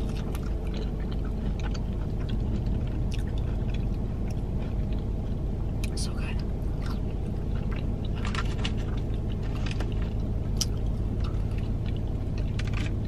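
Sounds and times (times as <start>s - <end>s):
close-up chewing: 0.0s - 13.0s
low steady hum: 0.0s - 13.0s.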